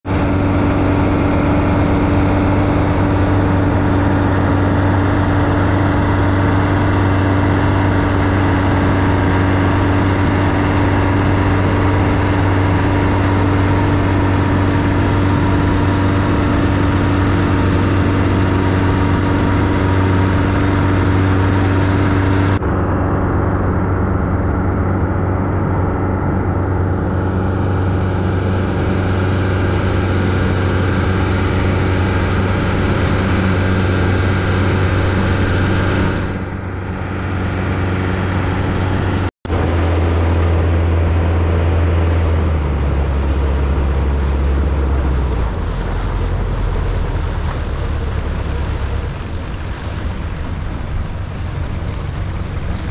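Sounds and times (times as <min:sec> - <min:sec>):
boat engine drone: 0:00.0 - 0:52.9.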